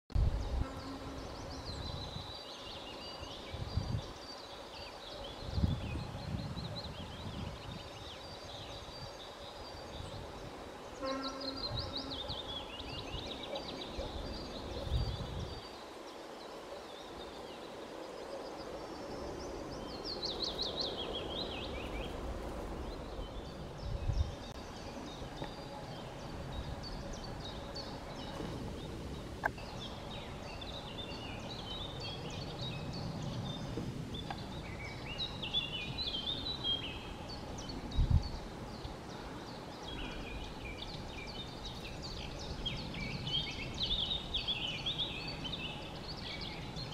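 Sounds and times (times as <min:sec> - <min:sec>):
songbirds chirping: 0:00.1 - 0:46.9.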